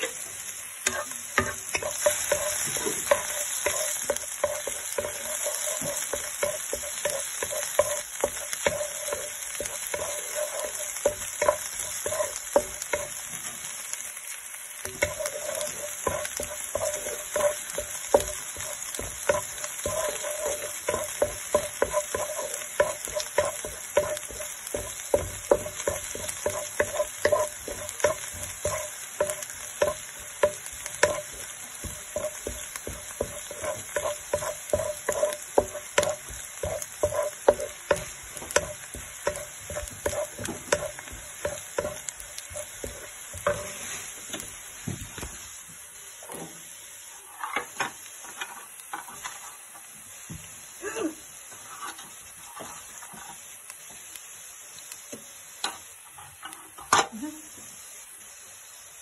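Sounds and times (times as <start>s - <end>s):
wooden spatula scraping a pan: 0.0s - 13.8s, 14.8s - 45.4s, 46.2s - 50.0s, 51.5s - 53.5s
onion and garlic sizzling in oil: 0.0s - 59.0s.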